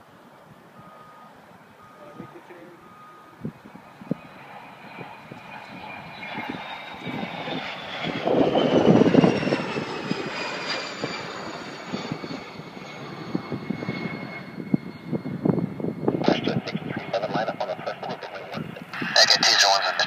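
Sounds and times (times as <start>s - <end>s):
turbine whine: 0.8s - 20.0s
jet flying past: 2.1s - 20.0s.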